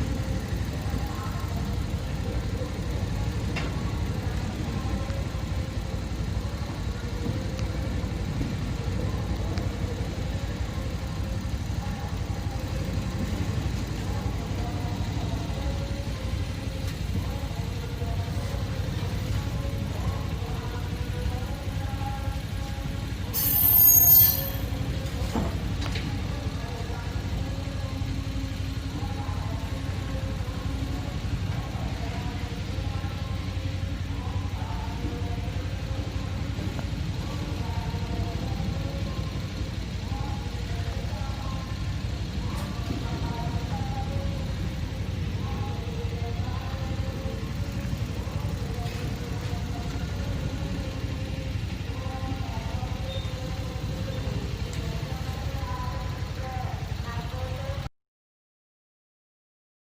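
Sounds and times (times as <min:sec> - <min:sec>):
train rumbling: 0:00.0 - 0:57.8.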